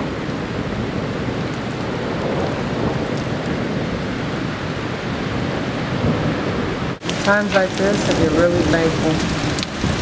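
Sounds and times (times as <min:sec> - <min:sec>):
heavy rain pouring: 0:00.0 - 0:10.0
thunder rumbling: 0:00.0 - 0:10.0.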